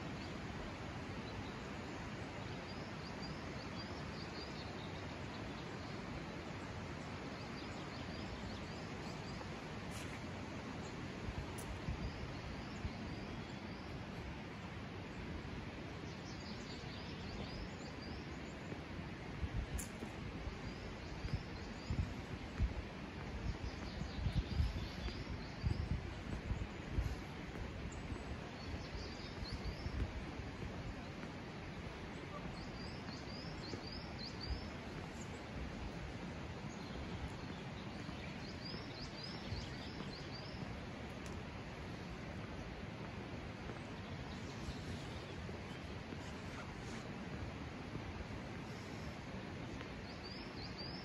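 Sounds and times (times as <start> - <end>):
small birds chirping: 0.0 - 51.0
steady outdoor rushing noise: 0.0 - 51.0.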